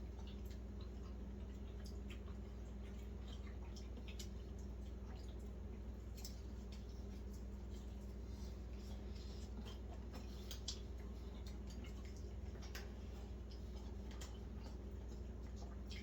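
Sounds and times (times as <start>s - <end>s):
steady low hum: 0.0s - 16.0s
wet mouth clicks and smacks: 0.2s - 7.5s, 8.9s - 16.0s.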